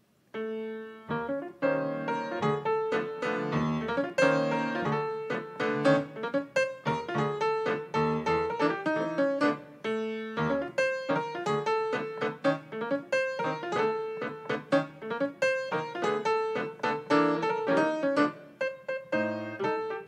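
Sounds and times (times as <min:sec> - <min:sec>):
grand piano playing: 0:00.3 - 0:20.0.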